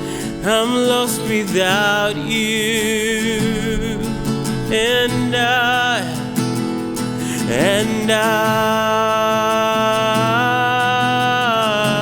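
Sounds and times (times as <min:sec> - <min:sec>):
acoustic guitar: 0:00.0 - 0:12.0.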